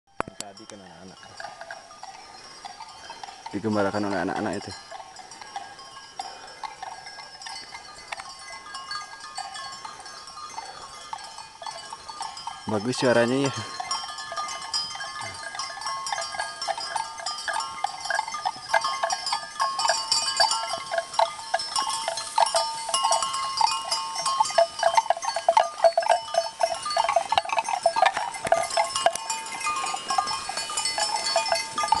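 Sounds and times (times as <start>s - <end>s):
cattle bells clanking: 0.1s - 32.0s.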